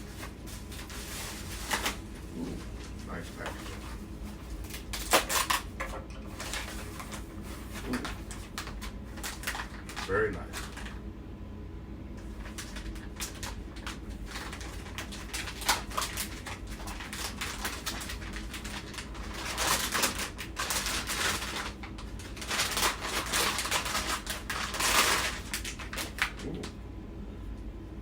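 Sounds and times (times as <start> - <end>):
packaging crinkling and rustling: 0.0 - 11.0, 12.2 - 26.7.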